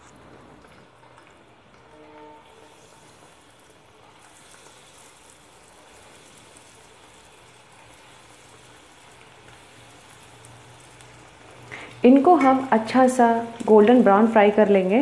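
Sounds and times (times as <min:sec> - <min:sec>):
deep-frying sizzle and crackle: 0:00.0 - 0:15.0.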